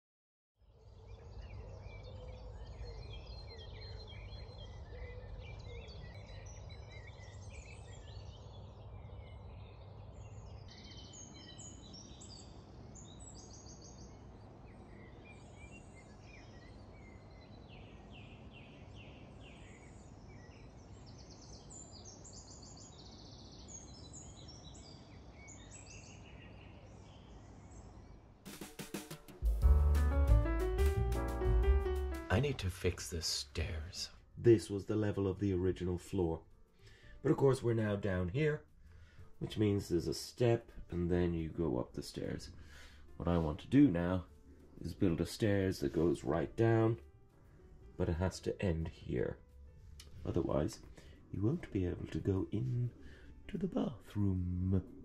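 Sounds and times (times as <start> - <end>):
small birds chirping: 0.6 - 28.4, 29.4 - 55.0.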